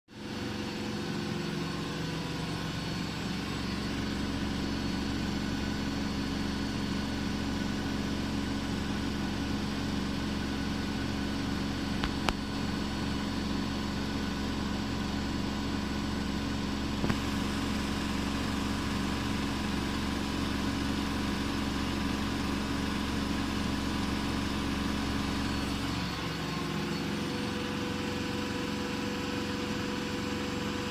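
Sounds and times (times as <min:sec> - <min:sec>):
washing machine spinning: 0:00.2 - 0:30.9.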